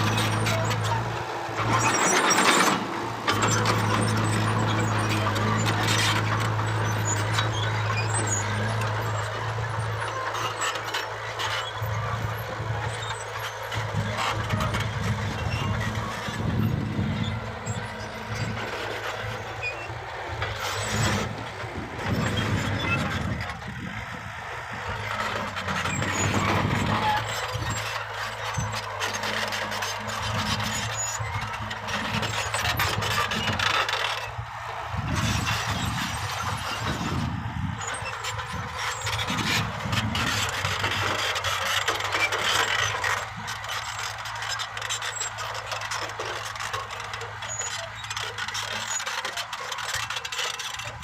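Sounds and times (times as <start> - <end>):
diesel engines humming: 0.0 - 51.0
rough machinery noise: 0.0 - 51.0.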